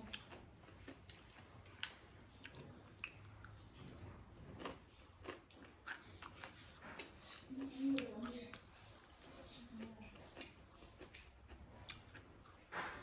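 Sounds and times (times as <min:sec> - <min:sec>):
close-up chewing: 0:00.0 - 0:13.0.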